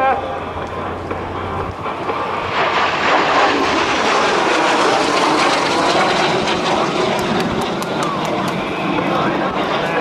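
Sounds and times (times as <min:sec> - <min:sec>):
jet roar passing low: 0:00.0 - 0:10.0
jet whine sliding down: 0:00.0 - 0:10.0.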